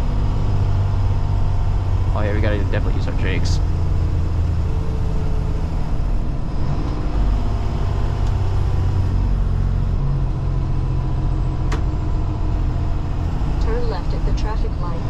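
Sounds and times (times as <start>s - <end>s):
diesel truck engine braking: 0.0s - 15.0s.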